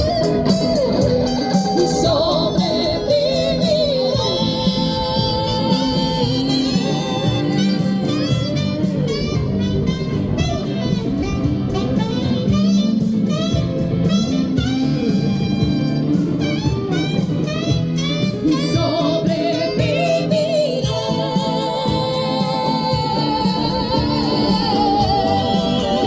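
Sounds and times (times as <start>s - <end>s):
music with steady beat: 0.0s - 26.0s.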